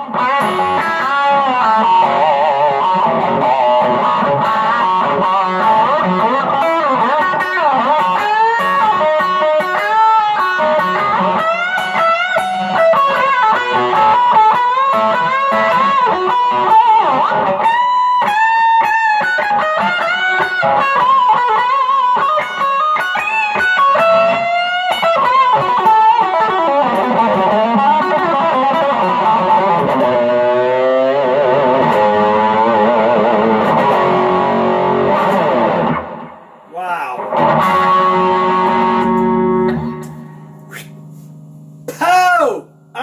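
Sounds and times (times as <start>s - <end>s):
electric guitar lead: 0.0s - 43.0s.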